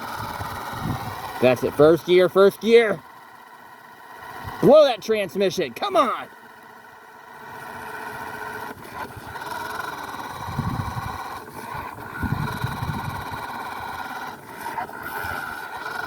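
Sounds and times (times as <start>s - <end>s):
toy car electric motor whining: 0.0s - 16.0s.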